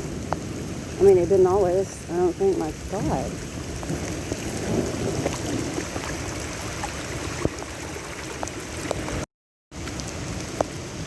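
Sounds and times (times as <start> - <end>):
floodwater rushing: 0.0 - 11.0
rain falling: 0.0 - 11.0.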